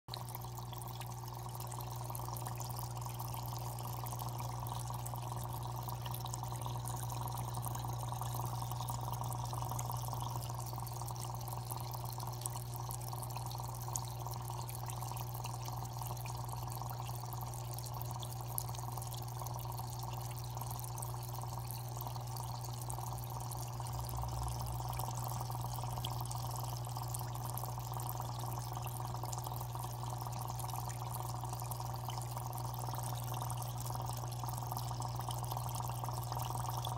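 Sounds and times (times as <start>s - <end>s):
aquarium water trickling: 0.1s - 36.9s
constant low hum: 0.1s - 36.9s.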